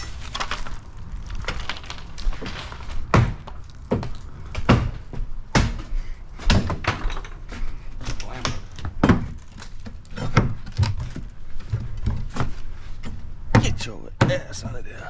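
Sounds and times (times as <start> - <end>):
smaller knocks and clatter: 0.3 - 14.5.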